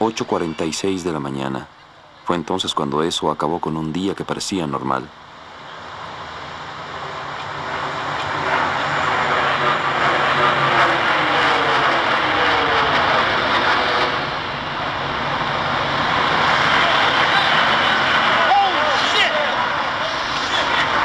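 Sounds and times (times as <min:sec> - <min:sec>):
airliner jet engines passing overhead: 0:00.0 - 0:21.0.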